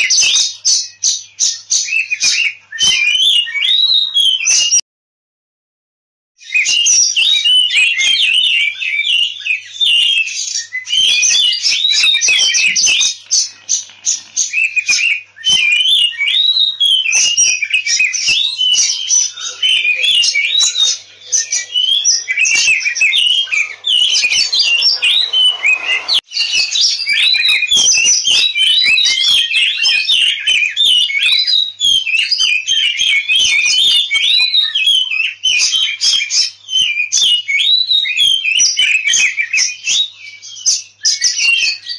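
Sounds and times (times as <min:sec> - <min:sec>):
bird singing whistles and trills: 0:00.0 - 0:04.8, 0:06.4 - 0:41.9.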